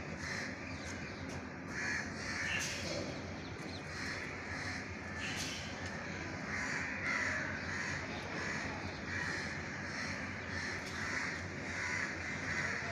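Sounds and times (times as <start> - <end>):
crows cawing: 0.0 - 0.7, 1.7 - 2.8, 3.8 - 12.9.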